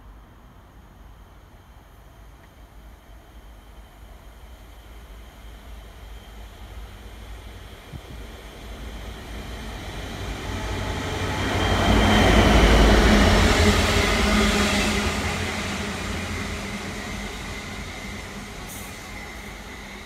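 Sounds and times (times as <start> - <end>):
diesel locomotive engine drone: 0.0 - 20.0
train rumble on rails: 0.0 - 20.0.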